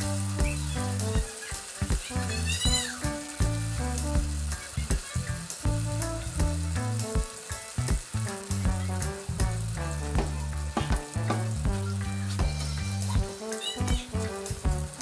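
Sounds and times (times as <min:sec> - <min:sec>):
background music with bass: 0:00.0 - 0:15.0
food deep-frying in oil: 0:00.0 - 0:15.0.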